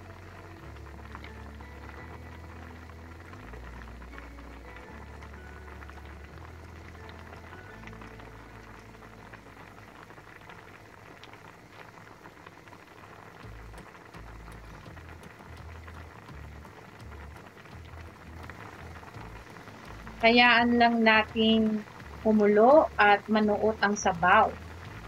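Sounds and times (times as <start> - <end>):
stew bubbling and popping: 0.0 - 25.0.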